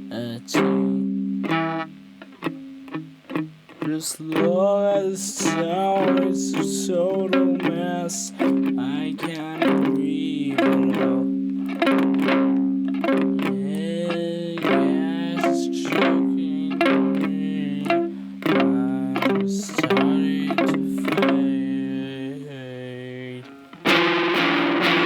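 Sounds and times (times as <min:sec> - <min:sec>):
guitar chords strummed: 0:00.0 - 0:25.0.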